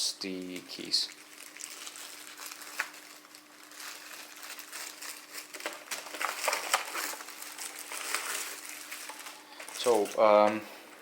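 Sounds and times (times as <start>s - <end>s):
faint steady hum: 0.0s - 11.0s
keycaps crinkling and clicking: 1.5s - 10.6s.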